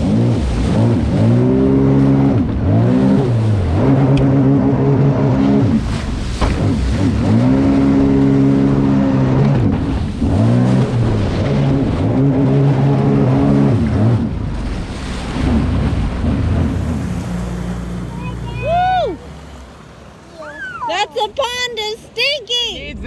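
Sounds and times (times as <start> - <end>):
personal watercraft engine revving: 0.0 - 23.0.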